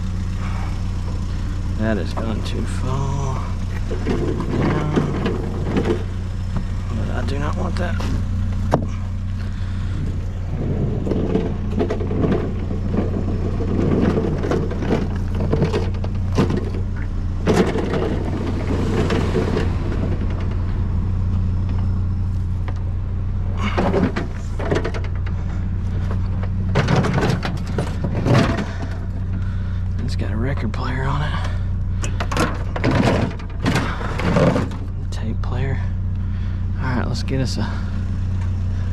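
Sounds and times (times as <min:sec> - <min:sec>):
junk knocking and clattering: 0:00.0 - 0:36.6
vehicle engine idling: 0:00.0 - 0:38.9.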